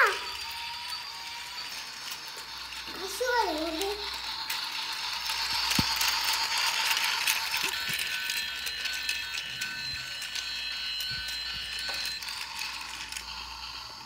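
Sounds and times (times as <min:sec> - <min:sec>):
toy train motor whirring: 0:00.0 - 0:14.0.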